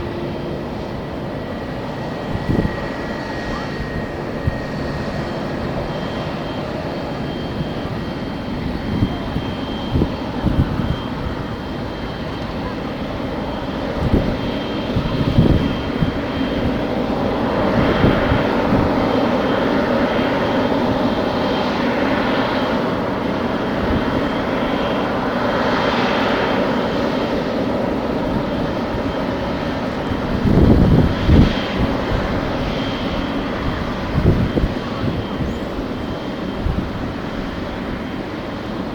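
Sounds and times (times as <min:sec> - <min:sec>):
jet engines running: 0:00.0 - 0:38.9
wind buffeting microphone: 0:00.0 - 0:38.9.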